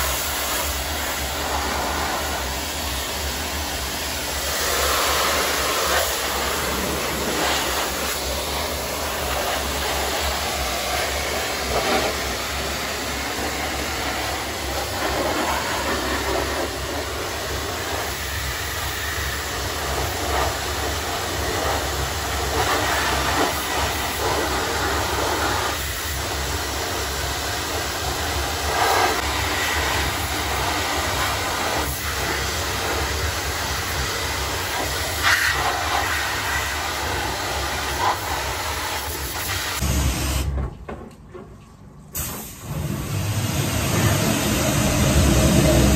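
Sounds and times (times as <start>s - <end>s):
pressure washer jet hissing: 0.0s - 40.5s, 42.2s - 45.9s.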